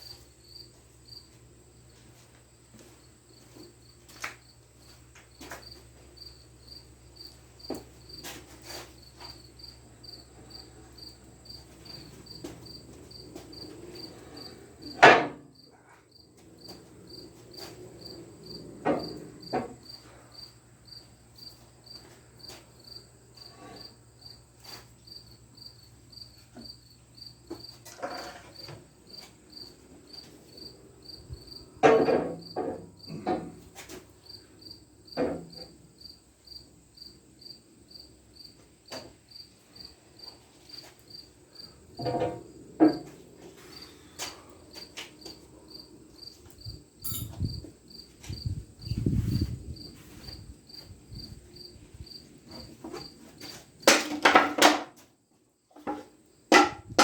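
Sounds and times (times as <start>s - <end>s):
cricket chirping: 0.0s - 2.0s, 3.0s - 33.4s, 34.2s - 53.6s.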